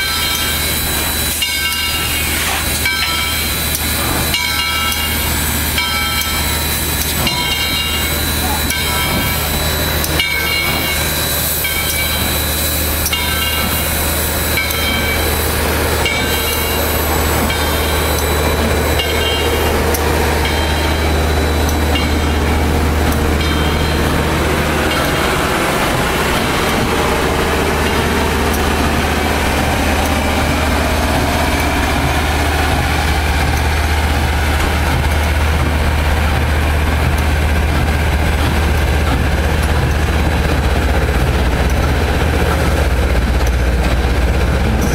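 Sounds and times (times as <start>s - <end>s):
locomotive bell ringing: 0.0s - 44.9s
steam locomotive rumble: 0.0s - 44.9s
train wheels on rail: 0.0s - 44.9s.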